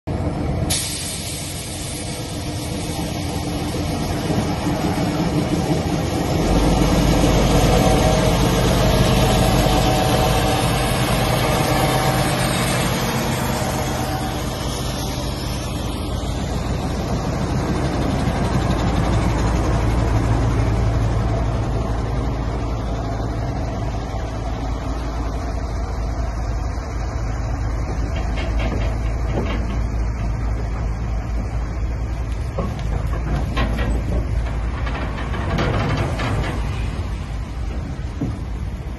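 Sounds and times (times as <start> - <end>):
diesel locomotive engines under load: 0.0 - 38.9.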